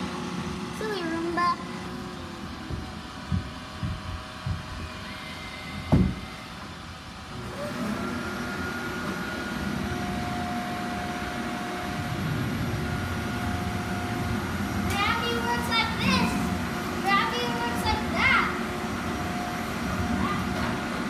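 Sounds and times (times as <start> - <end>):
robot vacuum running: 0.8 - 21.0
vacuum motor whine: 1.6 - 21.0.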